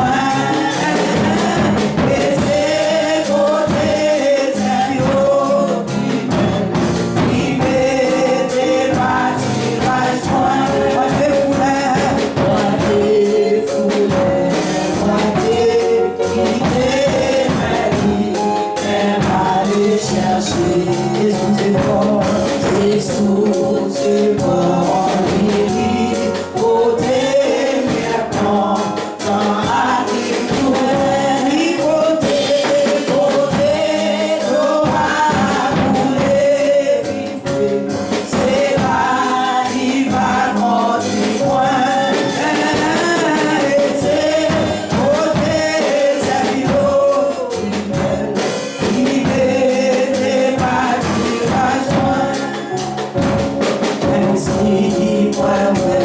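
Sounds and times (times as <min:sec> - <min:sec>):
band playing a steady beat: 0:00.0 - 0:56.0
congregation singing a hymn: 0:00.0 - 0:56.0.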